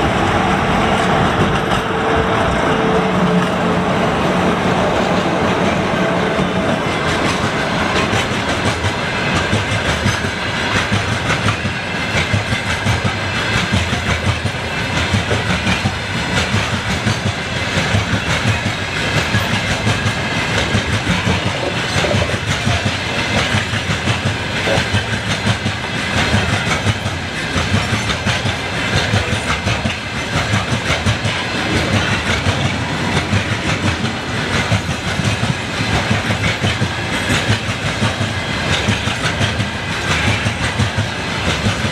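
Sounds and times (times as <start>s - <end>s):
train wheels clicking over rails: 0.0s - 41.9s.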